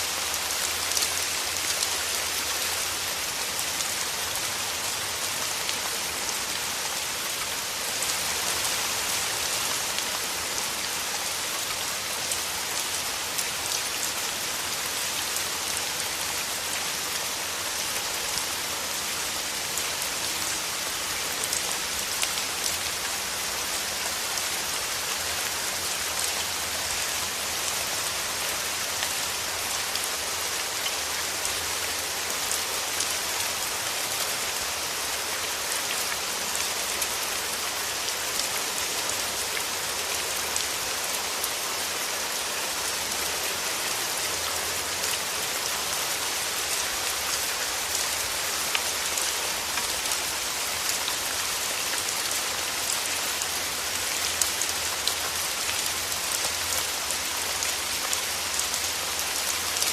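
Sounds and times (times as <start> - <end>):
rain hissing through forest trees: 0.0 - 59.9
raindrops ticking on leaves: 0.0 - 59.9.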